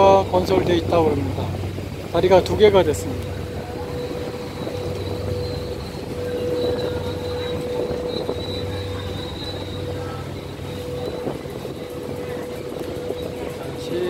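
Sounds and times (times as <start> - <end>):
constant hum: 0.0 - 14.0
ferry engines rumbling: 0.0 - 14.0.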